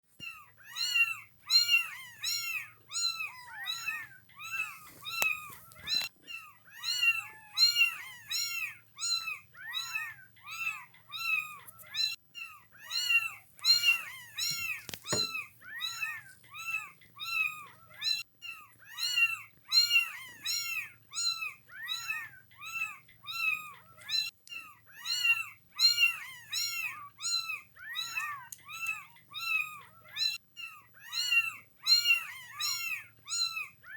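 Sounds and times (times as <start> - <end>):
kittens meowing: 0.2 - 33.9.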